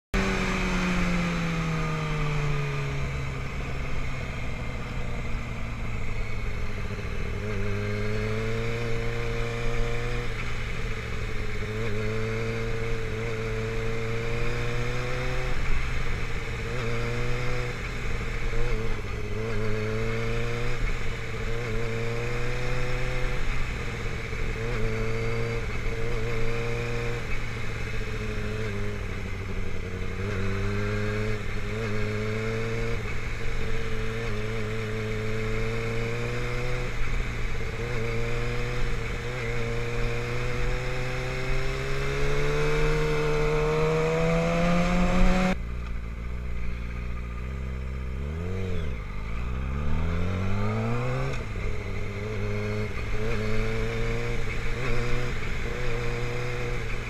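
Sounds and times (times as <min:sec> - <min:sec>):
motorcycle engine: 0:00.2 - 0:57.0
wind and road noise: 0:00.2 - 0:57.0.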